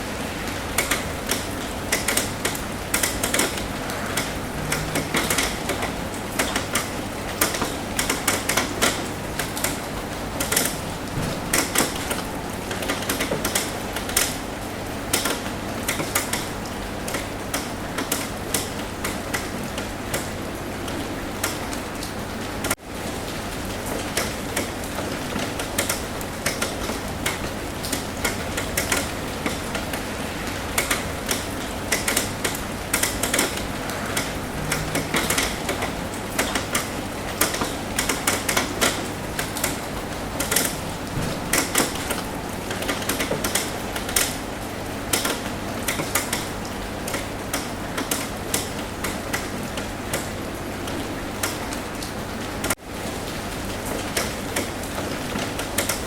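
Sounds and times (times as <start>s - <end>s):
rain hissing: 0.0s - 55.8s
raindrops tapping on roof: 0.0s - 56.0s.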